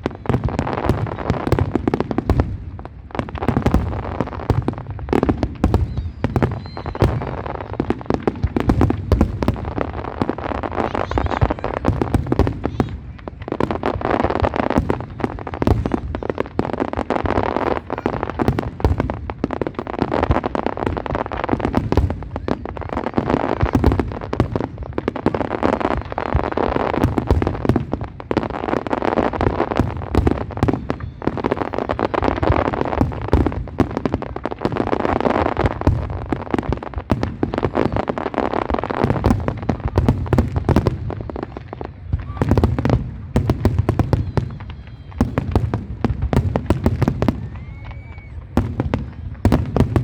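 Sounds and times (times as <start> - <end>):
fireworks cracks and bangs: 0.0 - 50.0.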